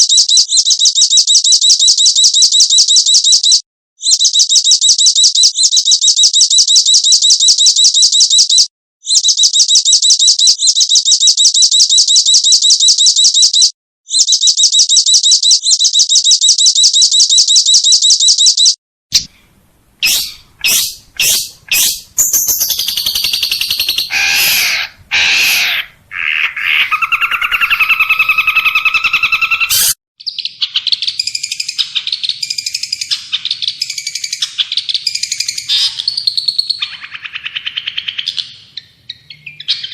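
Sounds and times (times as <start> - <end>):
bird chirps and warbling song: 0.0 - 19.3, 20.0 - 39.9
high bird trill: 0.0 - 19.3, 20.0 - 39.9
rapid bird twittering: 0.0 - 19.3, 20.0 - 39.9.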